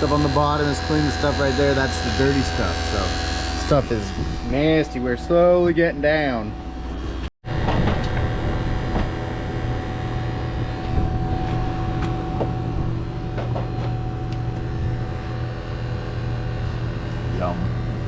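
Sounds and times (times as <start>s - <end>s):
vacuum pump humming: 0.0s - 18.0s.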